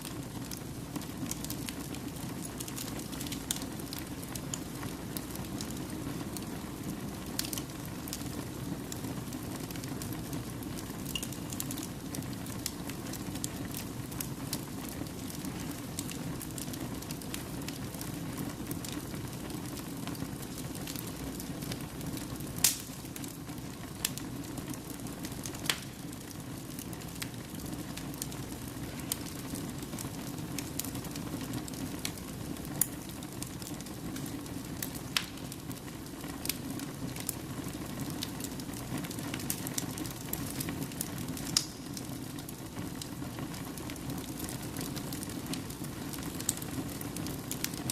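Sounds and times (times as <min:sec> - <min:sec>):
fire burning in fireplace: 0:00.0 - 0:47.9.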